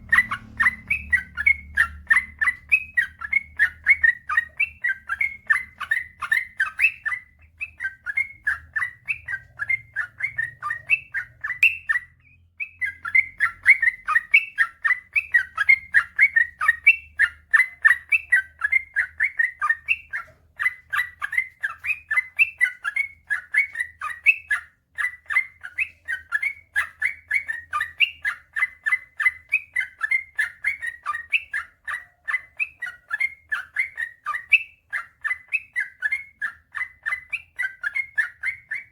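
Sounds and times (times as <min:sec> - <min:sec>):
bird warbling song: 0:00.0 - 0:38.9.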